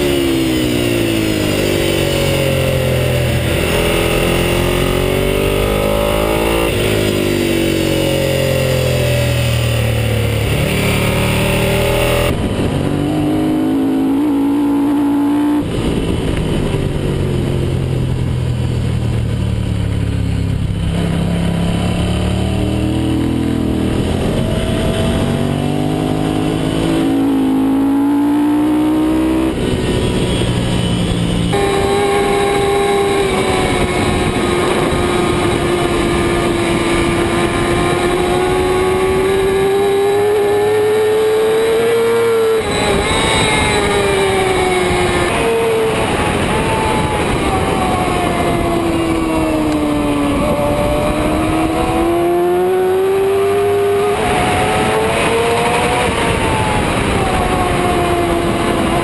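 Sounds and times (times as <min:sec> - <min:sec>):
motorcycle engine revving: 0:00.0 - 0:59.0
wind noise: 0:00.0 - 0:59.0.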